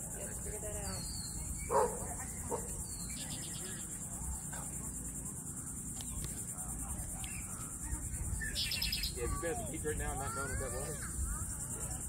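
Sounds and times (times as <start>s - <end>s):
field insects chirring: 0.0s - 12.0s.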